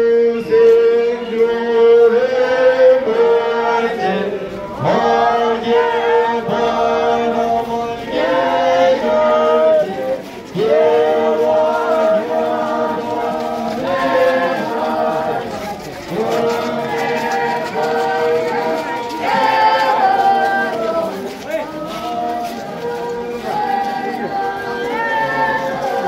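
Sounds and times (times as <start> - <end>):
group singing a slow chant: 0.0 - 26.0.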